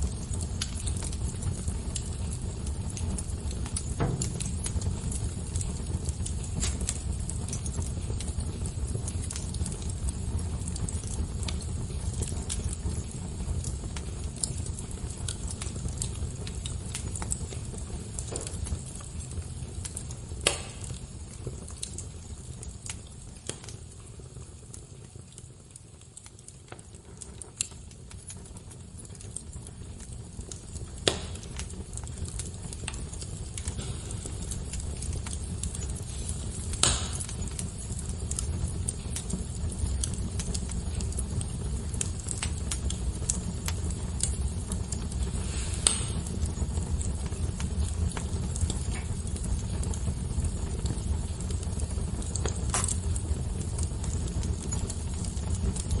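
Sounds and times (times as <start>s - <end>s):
fire crackling: 0.0s - 56.0s
fire popping: 0.0s - 56.0s.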